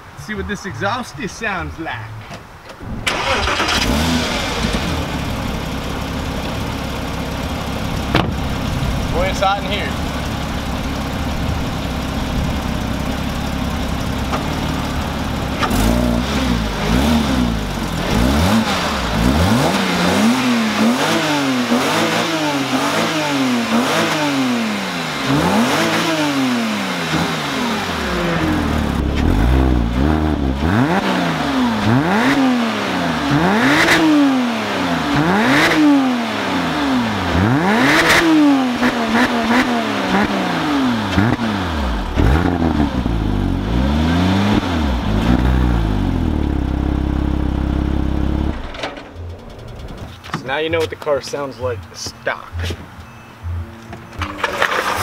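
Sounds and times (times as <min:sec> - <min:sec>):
car engine idling and revving: 0:02.1 - 0:55.0.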